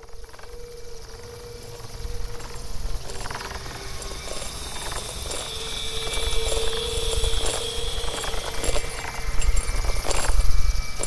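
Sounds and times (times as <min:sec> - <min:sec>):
faint steady whistle: 0:00.0 - 0:11.0.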